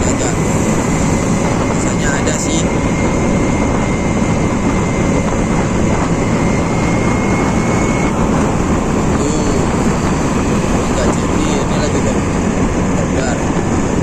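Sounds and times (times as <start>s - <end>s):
faint thin whine: 0.0s - 12.4s
scooter wind and road noise: 0.0s - 14.0s.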